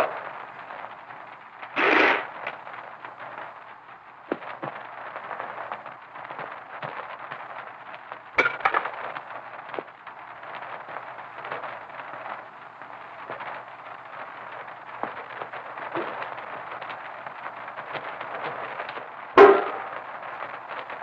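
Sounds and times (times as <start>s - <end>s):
crackling surface noise: 0.0s - 21.0s
steady low hum: 0.0s - 21.0s.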